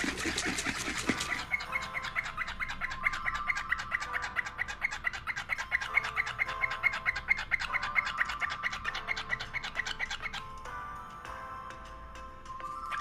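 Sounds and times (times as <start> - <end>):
cockatiel whistled tones: 0.0 - 10.8, 12.5 - 13.0
cockatiel chirping: 0.0 - 10.9, 12.6 - 13.0.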